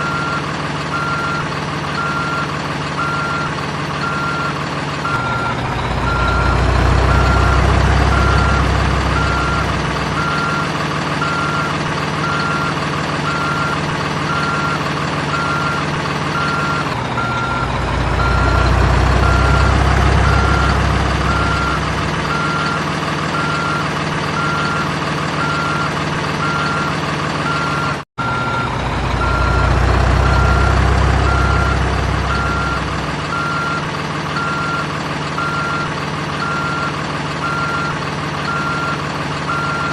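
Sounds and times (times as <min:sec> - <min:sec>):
simulated truck engine sound: 0:00.0 - 0:39.9
reversing beeper: 0:02.0 - 0:15.8, 0:16.4 - 0:39.9.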